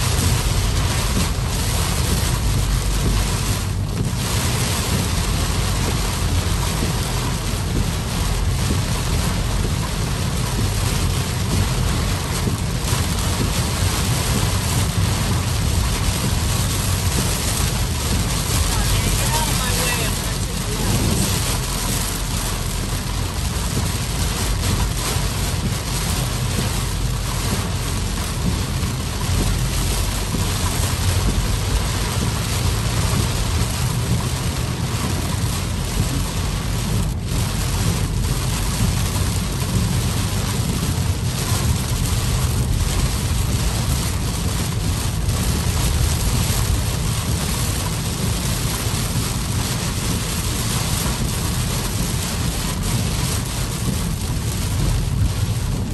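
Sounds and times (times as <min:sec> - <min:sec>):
heavy rain on car roof: 0:00.0 - 0:55.9
road noise and tyre spray: 0:00.0 - 0:55.9.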